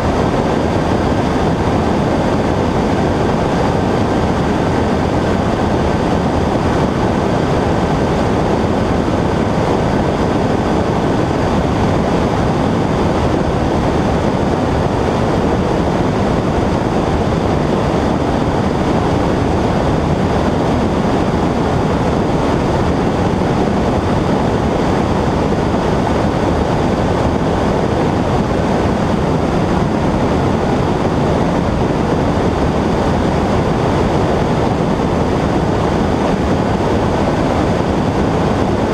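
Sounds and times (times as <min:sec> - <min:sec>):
light plane engine and propeller: 0:00.0 - 0:38.9
wind rush: 0:00.0 - 0:38.9.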